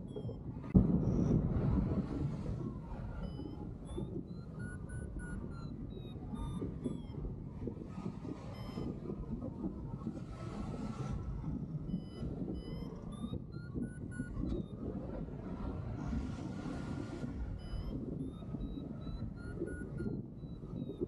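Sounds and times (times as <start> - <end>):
wind rushing over microphone: 0.6 - 5.6, 6.3 - 21.0
faint high beeps: 2.5 - 10.3, 11.6 - 21.0.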